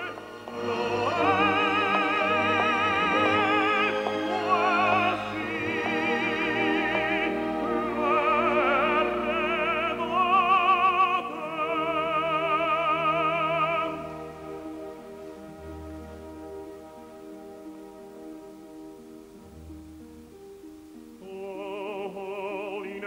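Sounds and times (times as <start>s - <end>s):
operatic tenor singing: 0.0s - 17.7s, 21.2s - 23.0s
orchestra playing: 0.0s - 21.6s.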